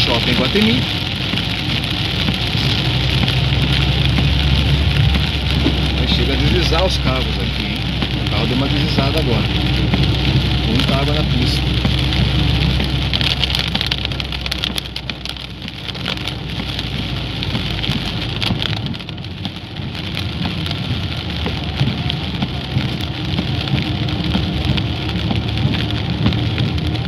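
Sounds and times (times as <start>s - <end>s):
car rumbling on flooded road: 0.0s - 27.0s
heavy rain on car roof: 0.0s - 27.0s.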